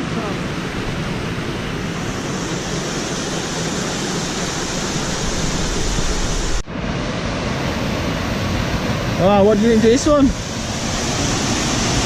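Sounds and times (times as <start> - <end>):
waterfall water rushing: 0.0 - 12.0.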